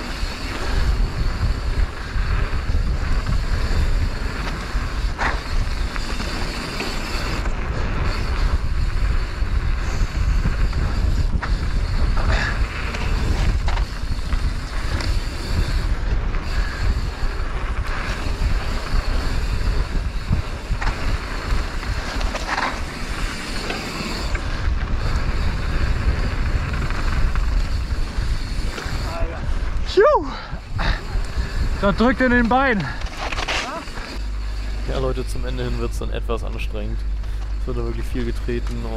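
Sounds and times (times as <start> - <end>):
wind on microphone: 0.0 - 33.1
bike clicks and rattles: 0.0 - 38.9
bike tyres rolling on dirt: 0.0 - 38.9.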